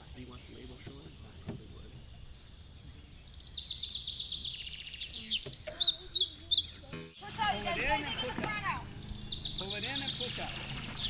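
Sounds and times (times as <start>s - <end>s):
songbird trilling: 0.0s - 11.0s
loud sharp bird chirps: 1.3s - 11.0s.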